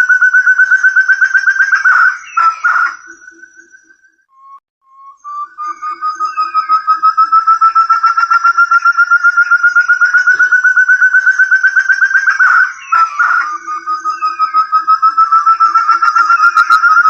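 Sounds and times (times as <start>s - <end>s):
partridge whistled call: 0.0s - 4.6s, 5.2s - 17.0s.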